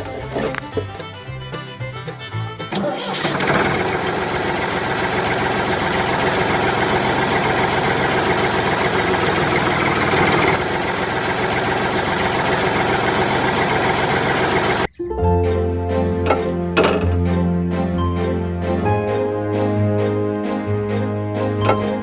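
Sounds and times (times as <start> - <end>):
small diesel engine running: 0.0 - 22.0.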